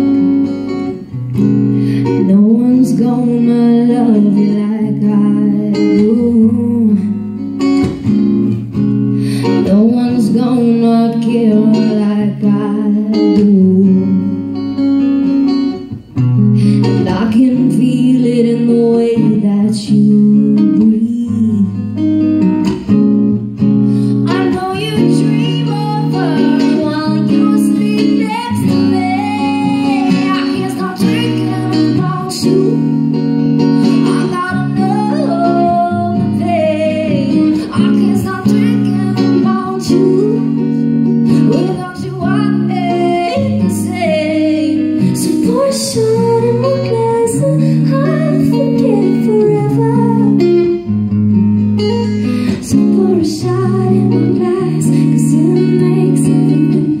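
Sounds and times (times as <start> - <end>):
woman singing into microphone: 0.0 - 8.6, 9.2 - 22.5, 23.9 - 51.2, 51.8 - 57.0
acoustic guitar: 0.0 - 57.0.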